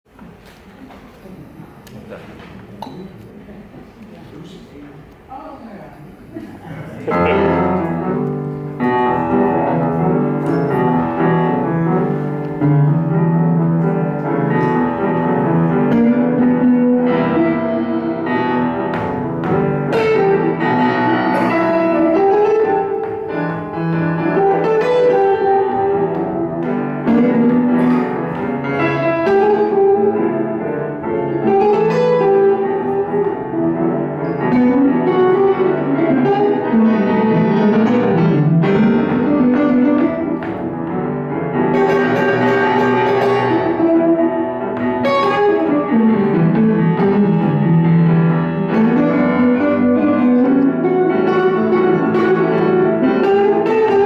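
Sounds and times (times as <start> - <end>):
grand piano: 6.1 - 54.0
electric guitar: 7.0 - 54.0.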